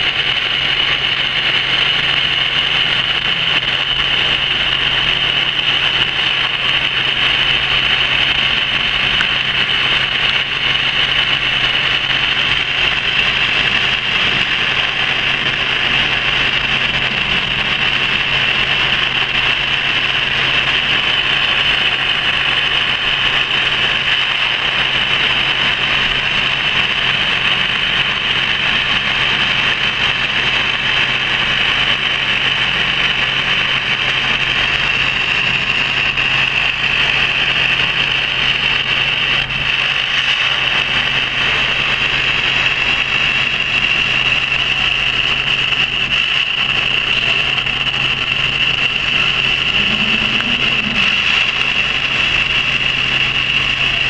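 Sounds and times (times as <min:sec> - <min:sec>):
laser cutter hissing: 0:00.0 - 0:54.0.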